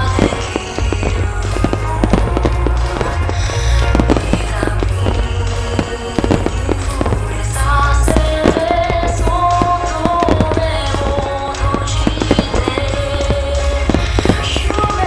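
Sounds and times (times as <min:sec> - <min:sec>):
fireworks bursting: 0:00.0 - 0:15.0
music: 0:00.0 - 0:15.0.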